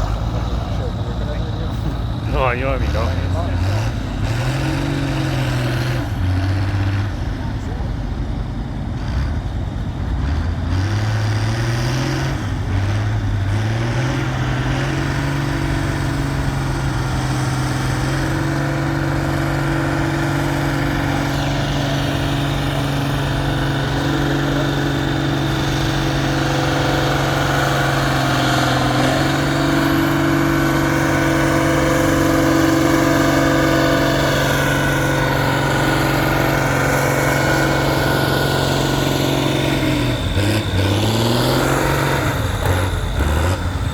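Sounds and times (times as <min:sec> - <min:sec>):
tractor engine revving: 0:00.0 - 0:43.9.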